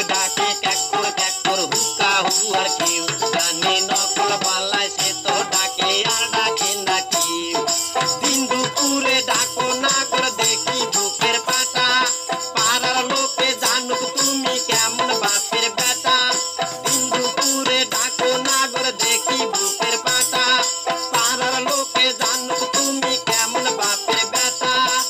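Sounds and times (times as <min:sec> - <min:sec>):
hand drum: 0:00.0 - 0:25.0
jingle tambourine shaking: 0:00.0 - 0:25.0.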